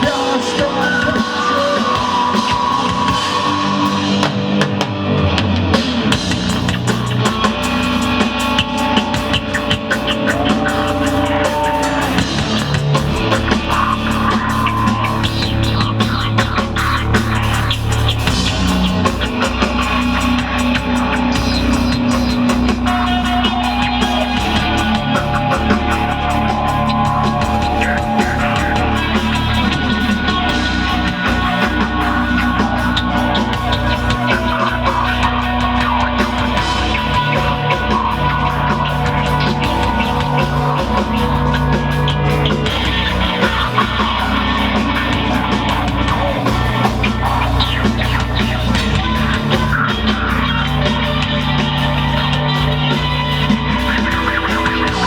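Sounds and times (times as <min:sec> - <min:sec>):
bass guitar: 0:00.0 - 0:55.0
distorted electric guitars: 0:00.0 - 0:55.0
drum kit: 0:00.0 - 0:55.0.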